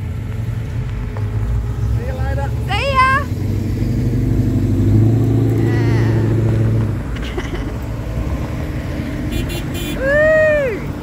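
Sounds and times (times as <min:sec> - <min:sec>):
pickup truck driving past: 0:00.0 - 0:11.0.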